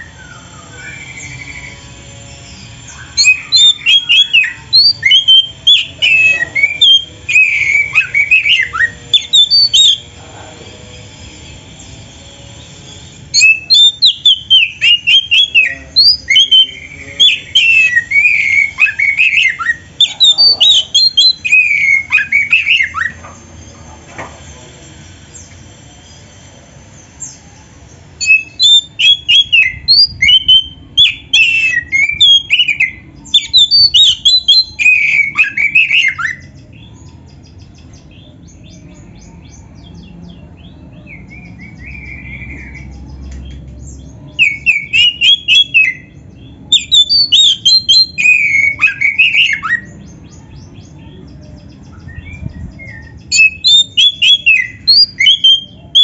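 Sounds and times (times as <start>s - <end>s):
magpie-robin singing: 0.0s - 10.2s, 11.4s - 23.4s, 25.3s - 56.0s.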